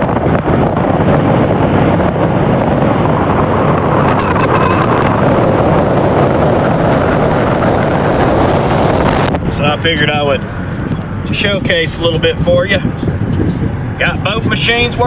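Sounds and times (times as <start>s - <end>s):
steady engine noise: 0.0s - 15.0s
wind buffeting microphone: 0.0s - 15.0s.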